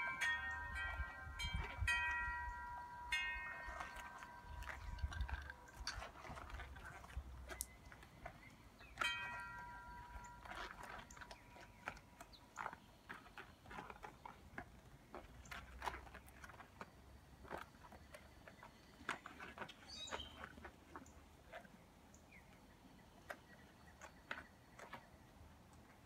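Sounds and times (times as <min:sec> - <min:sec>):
small clicks and rustles: 0:03.4 - 0:26.0.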